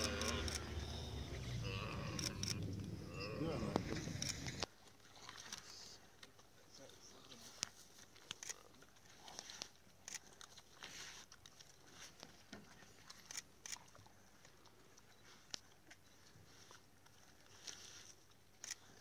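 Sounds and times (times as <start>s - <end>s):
animals chewing and tearing carcass: 0.0s - 19.0s.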